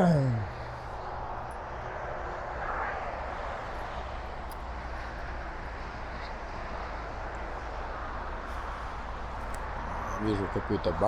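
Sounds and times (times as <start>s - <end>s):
motorway traffic noise: 0.0s - 11.0s.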